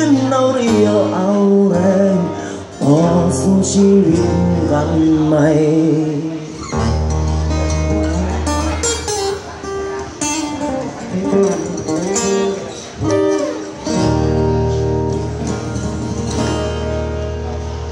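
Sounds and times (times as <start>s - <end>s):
acoustic guitar picked melody: 0.0s - 17.9s.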